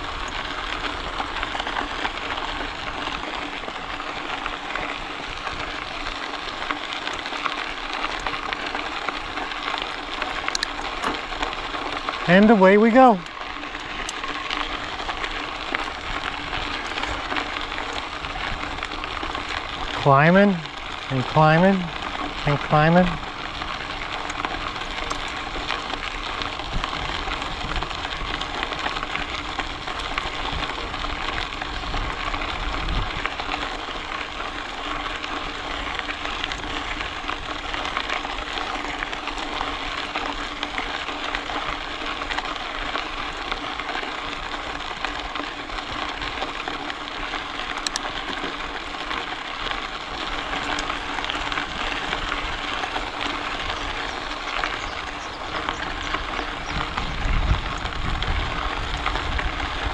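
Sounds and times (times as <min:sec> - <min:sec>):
bicycle tyres rolling on trail: 0:00.0 - 0:59.9.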